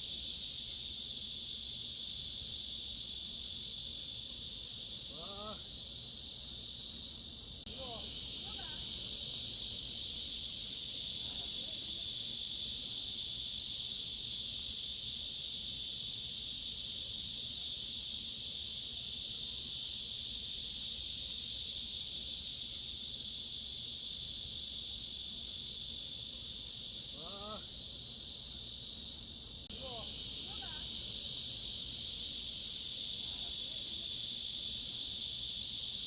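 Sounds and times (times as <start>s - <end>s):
cicadas droning: 0.0s - 36.0s.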